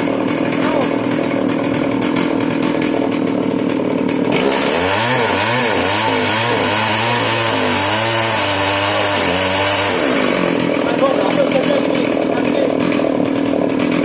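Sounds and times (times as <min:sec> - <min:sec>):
sawmill saw running: 0:00.0 - 0:14.0.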